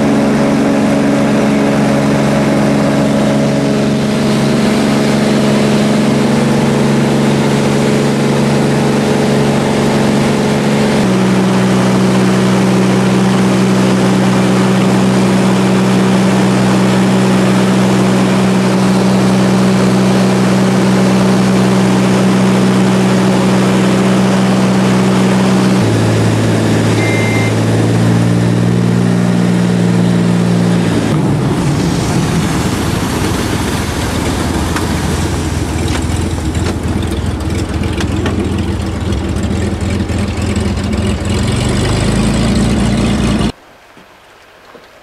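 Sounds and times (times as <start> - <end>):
propeller plane engine drone: 0.0 - 43.6
floats rushing on water: 0.0 - 45.0.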